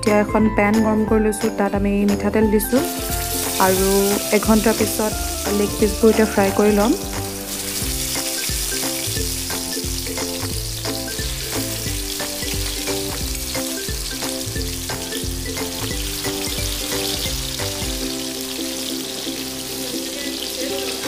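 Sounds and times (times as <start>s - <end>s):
background music: 0.0s - 21.0s
chicken sizzling in oil: 2.5s - 21.0s.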